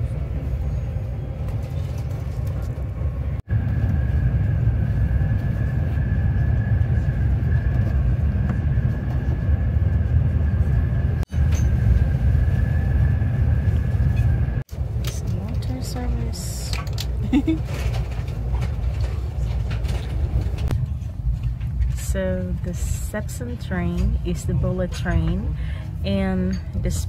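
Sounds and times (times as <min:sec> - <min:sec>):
high whine: 0:00.0 - 0:26.7
train cabin rumble: 0:00.0 - 0:27.0.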